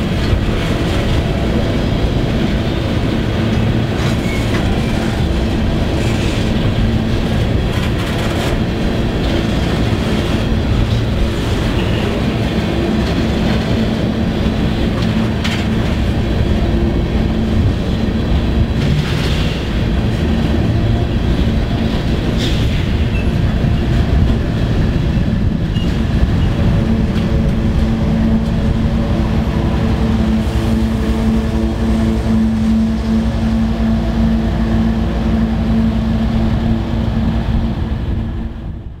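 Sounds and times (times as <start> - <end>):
diesel locomotive engine hum: 0.0 - 39.0
train wheels rumbling on rails: 0.0 - 39.0.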